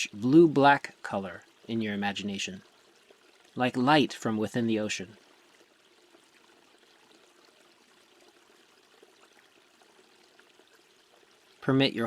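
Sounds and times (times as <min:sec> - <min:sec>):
faint running water: 0:00.0 - 0:12.0.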